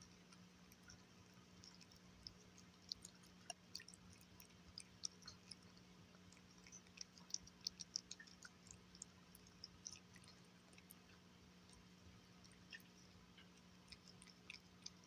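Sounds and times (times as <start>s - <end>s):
cat chewing wet smacks: 0.0s - 15.0s.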